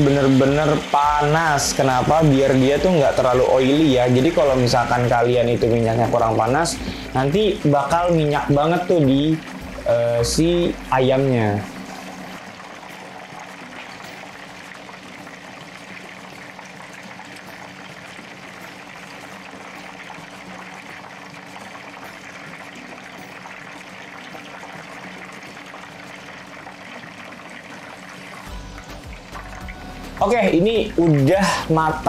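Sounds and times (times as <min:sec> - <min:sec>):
chicken deep-frying in oil: 0:00.0 - 0:32.0.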